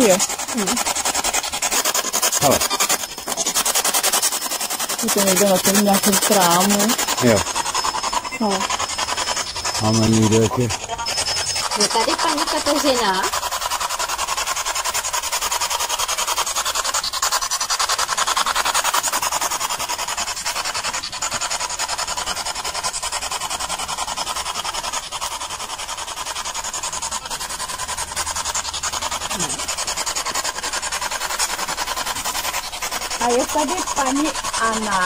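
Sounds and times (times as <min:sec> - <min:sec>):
static hiss with fluttering pulse: 0:00.0 - 0:35.0.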